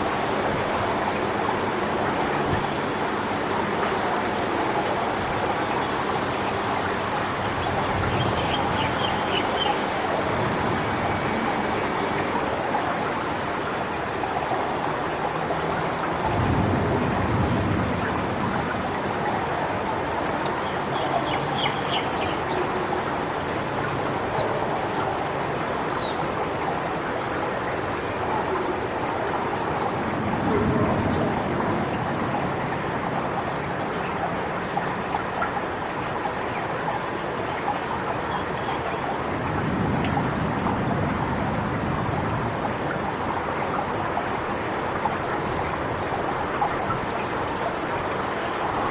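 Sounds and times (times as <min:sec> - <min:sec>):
wind buffeting microphone: 0:00.0 - 0:24.2, 0:27.9 - 0:36.2, 0:38.1 - 0:48.9
wind rustling palm fronds: 0:00.0 - 0:48.9.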